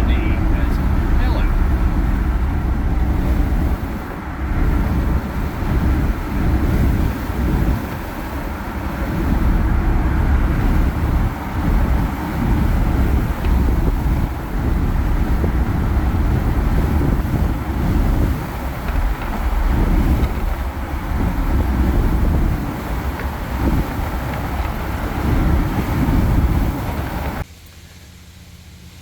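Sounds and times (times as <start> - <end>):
wind buffeting microphone: 0.0 - 27.5
vehicle engine and tyre rumble: 0.0 - 29.0.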